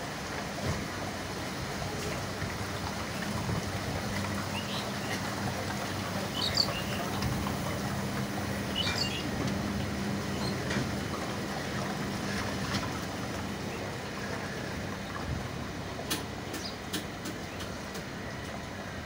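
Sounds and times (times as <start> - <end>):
train running through water: 0.0 - 19.0.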